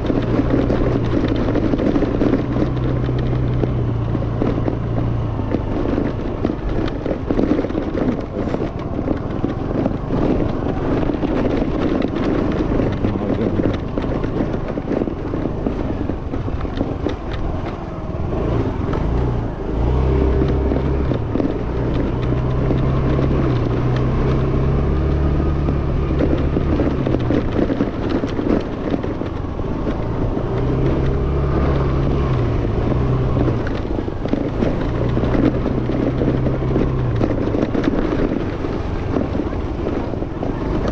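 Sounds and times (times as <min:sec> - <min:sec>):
scooter engine running: 0:00.0 - 0:40.9
wind and road noise: 0:00.0 - 0:40.9.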